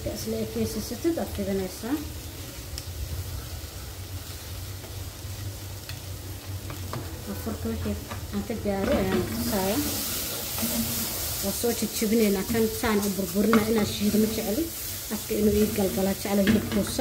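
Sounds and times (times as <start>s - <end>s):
meat cooking in a pot: 0.0s - 17.0s.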